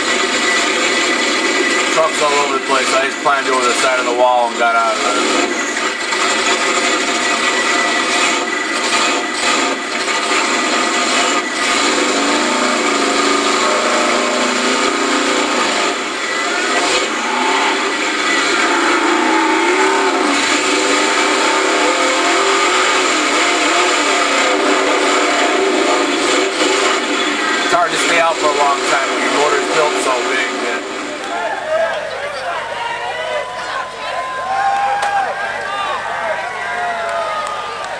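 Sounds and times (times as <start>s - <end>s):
truck engine revving: 0.0s - 31.3s.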